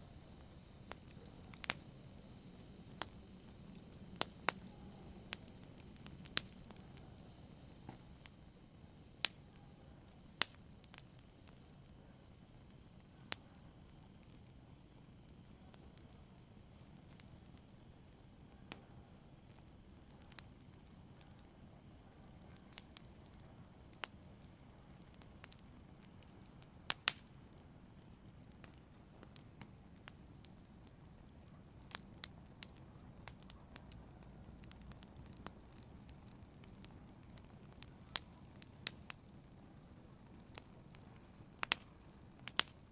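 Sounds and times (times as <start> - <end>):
flames hissing: 0.0 - 42.9
wood fire crackling: 0.0 - 42.9.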